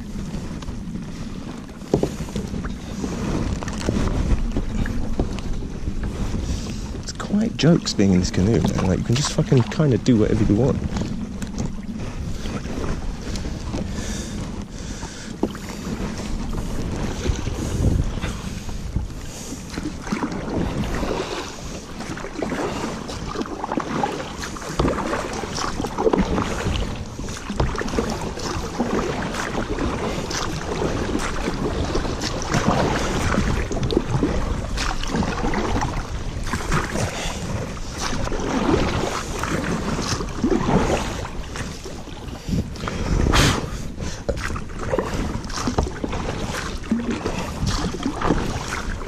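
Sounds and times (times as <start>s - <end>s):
paddle splashing water: 0.0s - 49.0s
wind on microphone: 0.0s - 49.0s.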